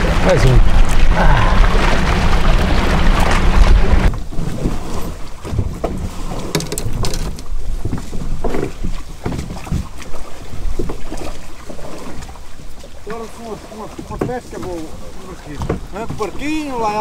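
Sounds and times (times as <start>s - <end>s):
water sloshing against hull: 0.0s - 17.0s.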